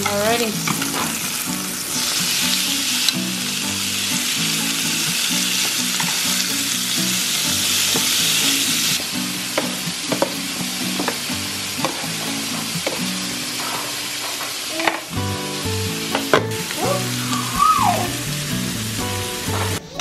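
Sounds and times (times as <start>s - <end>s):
steaks sizzling in a pan: 0.0s - 20.0s.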